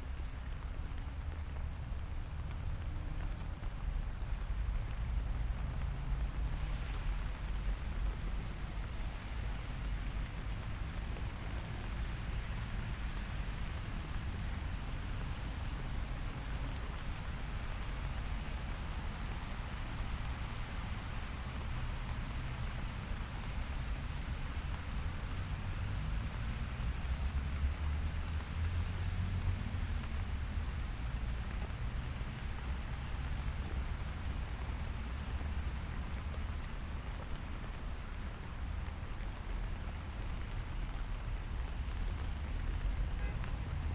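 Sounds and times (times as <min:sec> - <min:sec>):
light rain falling: 0:00.0 - 0:43.9
traffic rumble: 0:00.0 - 0:43.9.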